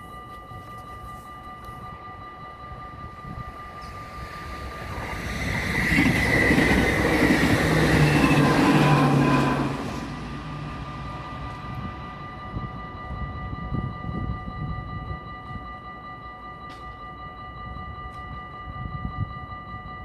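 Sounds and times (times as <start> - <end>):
level crossing warning bells: 0.0 - 20.0
train wheel and rail rumble: 0.0 - 20.0.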